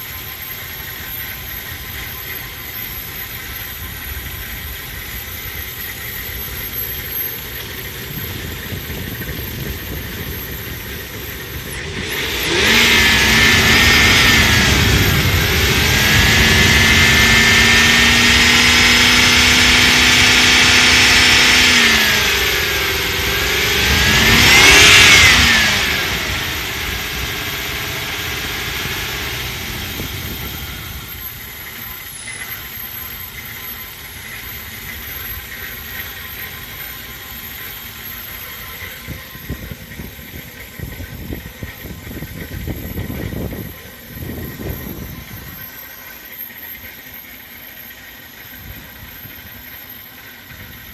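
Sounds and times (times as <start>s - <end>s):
car engine revving and idling: 0.0s - 50.9s.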